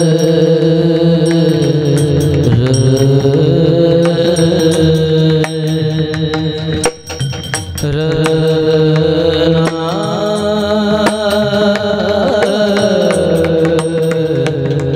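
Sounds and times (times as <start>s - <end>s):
percussion strikes: 0.0s - 14.9s.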